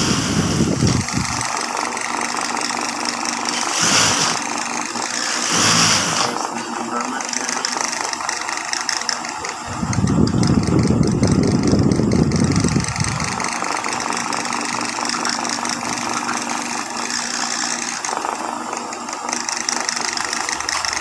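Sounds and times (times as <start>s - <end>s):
machine hum: 0.0s - 21.0s
sewing machine stitching: 0.0s - 21.0s.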